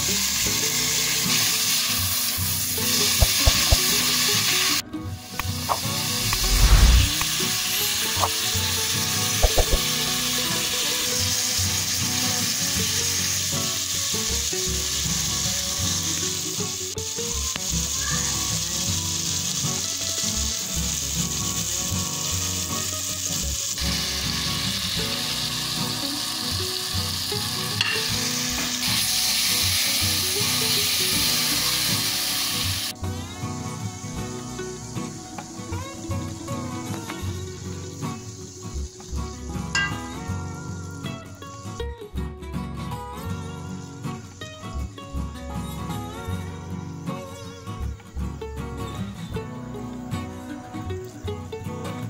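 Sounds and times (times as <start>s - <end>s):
vegetables sizzling in oil: 0.0s - 41.9s, 43.0s - 52.0s.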